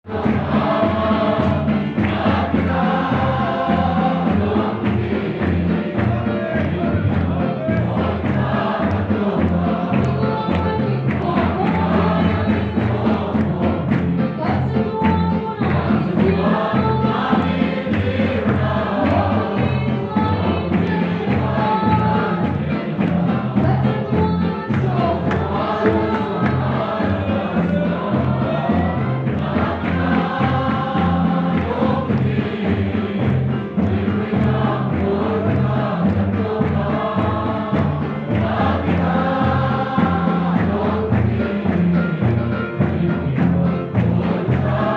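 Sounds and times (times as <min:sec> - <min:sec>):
choir singing: 0:00.0 - 0:44.9
rhythmic bass line: 0:00.0 - 0:44.9
instrumental accompaniment: 0:00.1 - 0:44.9.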